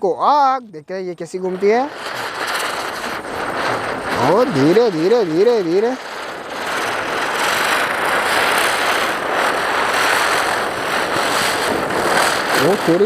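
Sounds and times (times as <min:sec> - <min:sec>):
spinner firework hissing: 0:01.2 - 0:13.0.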